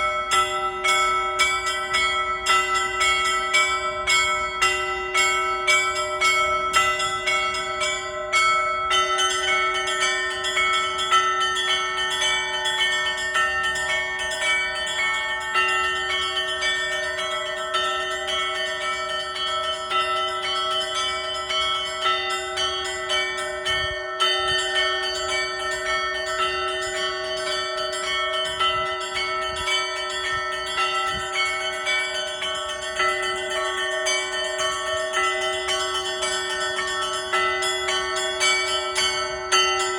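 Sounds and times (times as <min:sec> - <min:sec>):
deep church bell: 0:00.0 - 0:39.9
small church bells ringing: 0:00.0 - 0:39.9.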